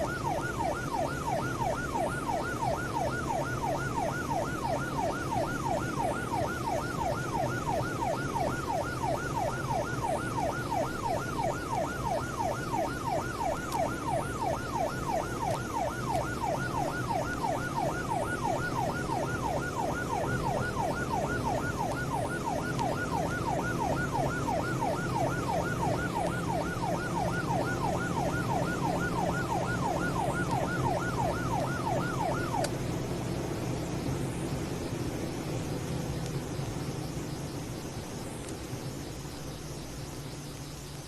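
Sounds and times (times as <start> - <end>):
yelp siren wailing: 0.0 - 41.0.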